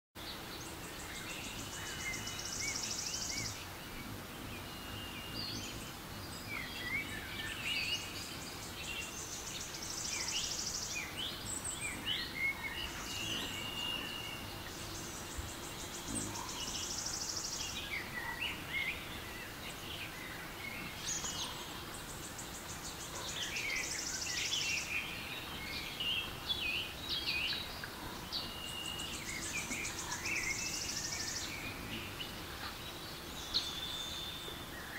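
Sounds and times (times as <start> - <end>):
songbirds chirping: 0.2 - 34.9
steady low hiss: 0.2 - 34.9.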